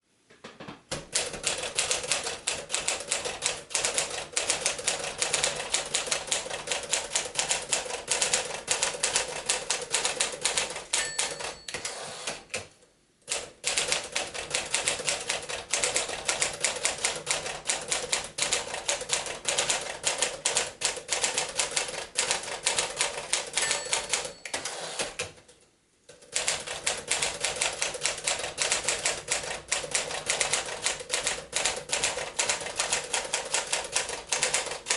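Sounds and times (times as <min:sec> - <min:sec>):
manual typewriter typing: 0:01.0 - 0:12.7, 0:13.3 - 0:25.4, 0:26.1 - 0:34.9.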